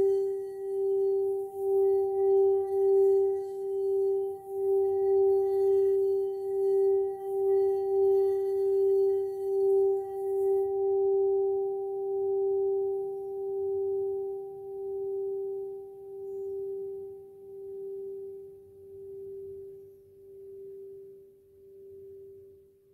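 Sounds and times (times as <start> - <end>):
mallet rubbing crystal singing bowl rim: 0.0 - 22.3
singing bowl ringing note: 0.0 - 22.6.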